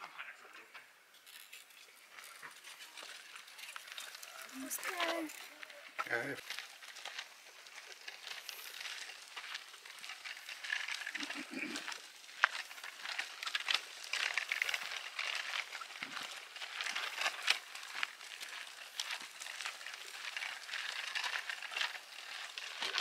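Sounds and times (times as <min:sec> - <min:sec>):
rustling: 0:00.7 - 0:23.0
footsteps on gravel: 0:01.2 - 0:23.0.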